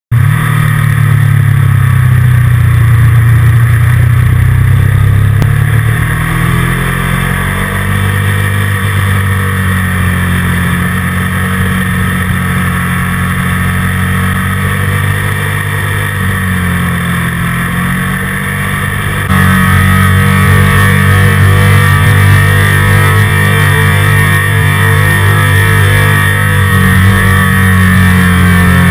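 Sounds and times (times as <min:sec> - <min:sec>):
motorcycle engine at speed: 0:00.1 - 0:28.9.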